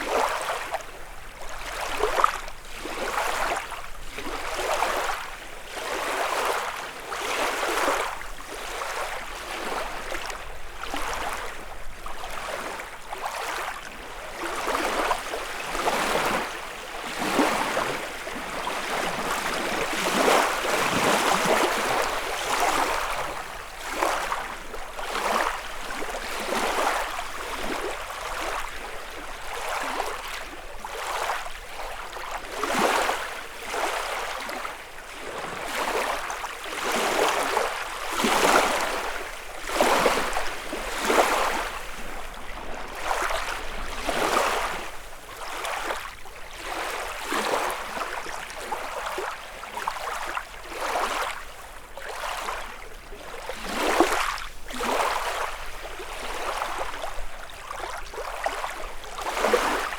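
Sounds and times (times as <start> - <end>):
lake waves lapping on shore: 0.0 - 59.9.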